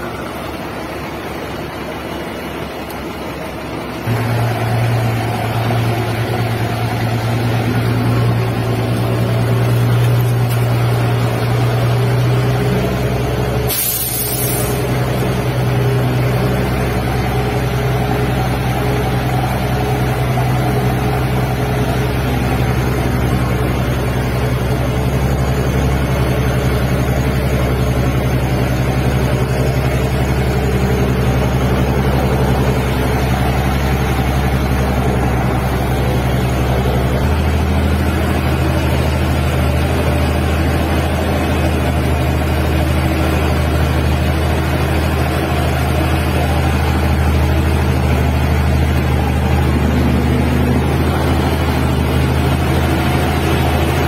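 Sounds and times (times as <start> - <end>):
diesel engine under load: 0.0 - 54.0.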